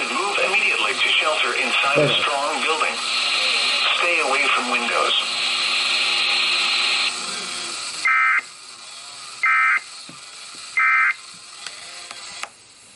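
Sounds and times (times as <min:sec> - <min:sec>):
loud steady hiss: 0:00.0 - 0:12.9.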